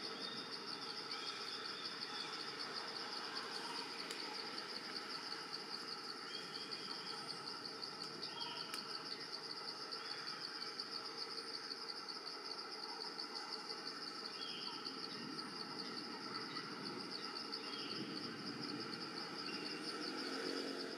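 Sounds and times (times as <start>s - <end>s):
forest insects chorus: 0.0s - 20.9s.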